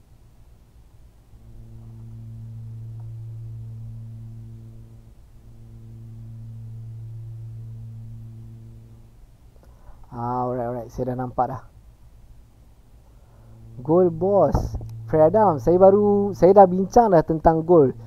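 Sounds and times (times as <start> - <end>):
man humming low note: 1.3 - 11.0, 13.2 - 18.0.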